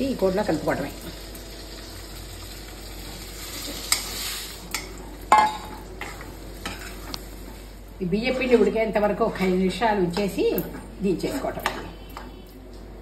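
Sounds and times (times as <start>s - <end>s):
curry sizzling in a pan: 0.0s - 12.9s.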